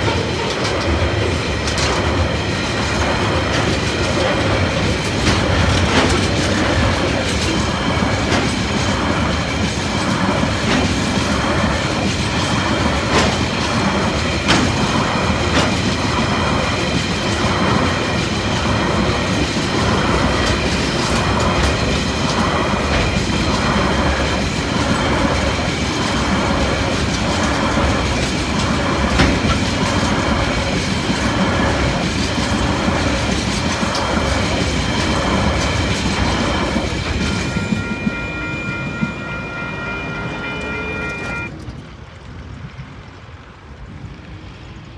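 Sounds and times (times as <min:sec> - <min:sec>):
train wheels clattering over rails: 0:00.0 - 0:39.2.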